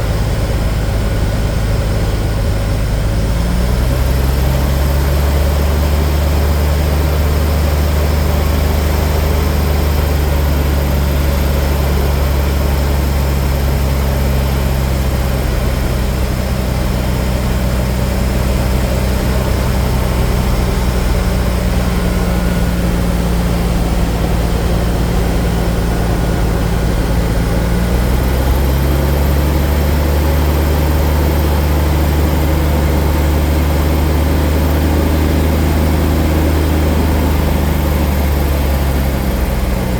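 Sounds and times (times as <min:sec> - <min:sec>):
propeller plane engine in flight: 0:00.0 - 0:39.9.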